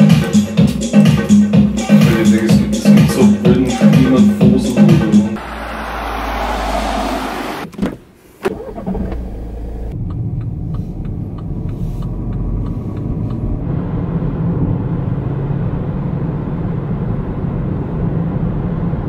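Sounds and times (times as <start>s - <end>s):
car engine and road rumble: 1.5s - 19.0s.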